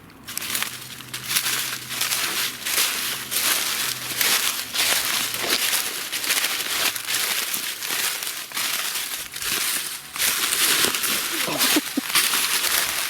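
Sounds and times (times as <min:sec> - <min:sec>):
rustling against microphone: 0:00.1 - 0:13.0.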